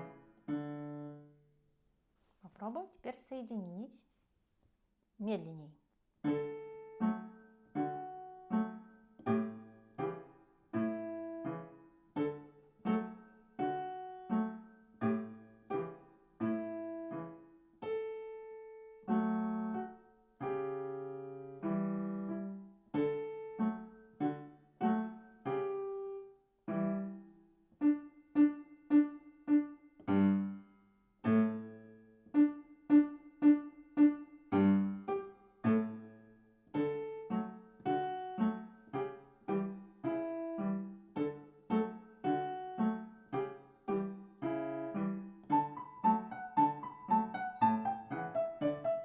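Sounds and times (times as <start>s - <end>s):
slow piano notes and chords: 0.0s - 1.5s, 6.2s - 49.0s.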